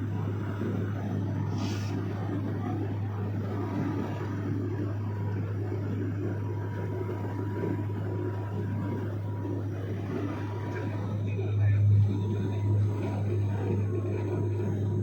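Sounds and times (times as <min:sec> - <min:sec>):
propeller airplane droning: 0:00.0 - 0:15.0.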